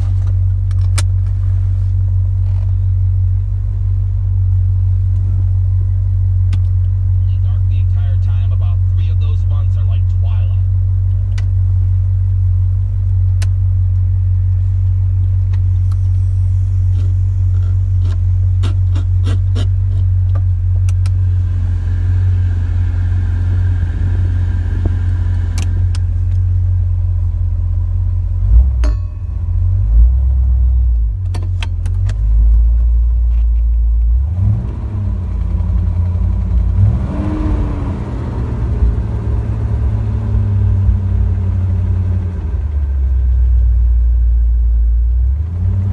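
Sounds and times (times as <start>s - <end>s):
car engine rumbling: 0.0s - 45.9s.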